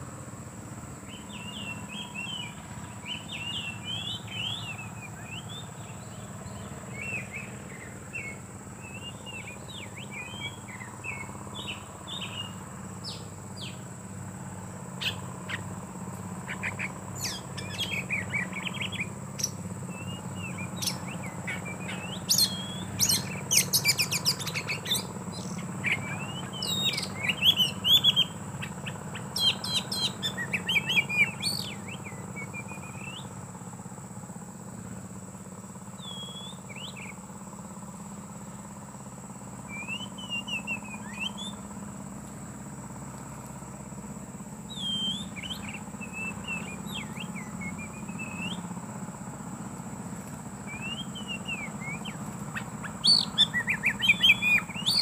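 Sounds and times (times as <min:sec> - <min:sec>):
birds singing and calling: 0:00.0 - 0:55.0.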